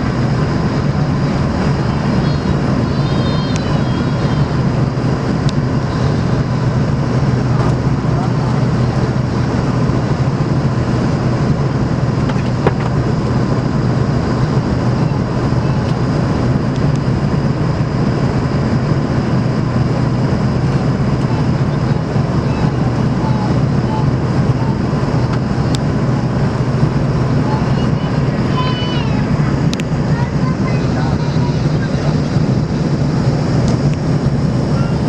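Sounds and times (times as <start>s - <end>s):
jet airliner cabin drone: 0.0s - 35.0s.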